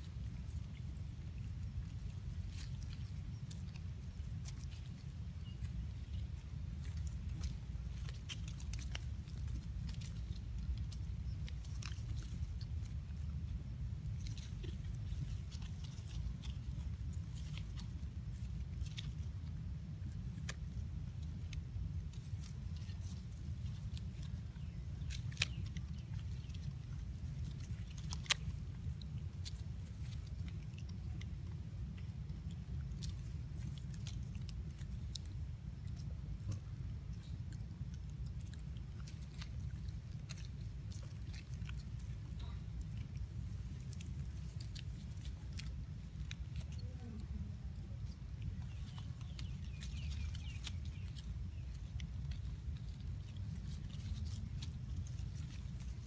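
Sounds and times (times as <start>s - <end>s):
faint clicks and crackles: 0.0s - 56.0s
low outdoor rumble: 0.0s - 56.0s.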